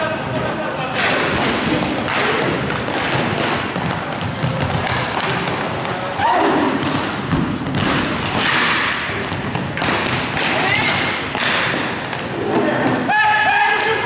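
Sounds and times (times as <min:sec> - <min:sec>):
skate wheels rolling: 0:00.1 - 0:14.0
sticks and ball knocking: 0:01.0 - 0:13.1.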